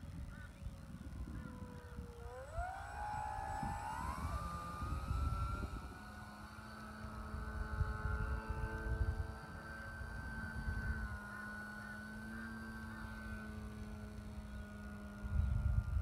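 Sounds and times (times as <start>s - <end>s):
electric motor and propeller whining: 0.0s - 16.0s.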